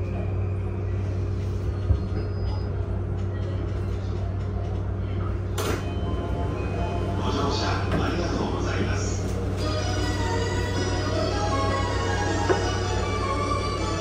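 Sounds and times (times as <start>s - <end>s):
train equipment low hum: 0.0s - 14.0s.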